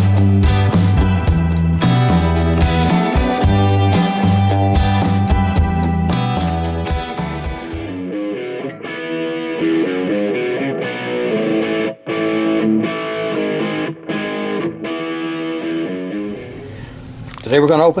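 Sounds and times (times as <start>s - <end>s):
distorted electric guitar: 0.0s - 16.8s.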